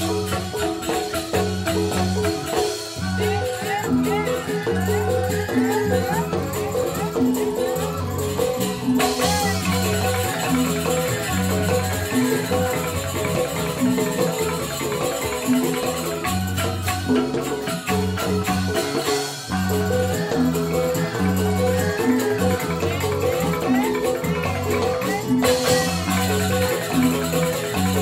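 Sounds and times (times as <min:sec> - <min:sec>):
bamboo xylophone melody: 0:00.0 - 0:28.0.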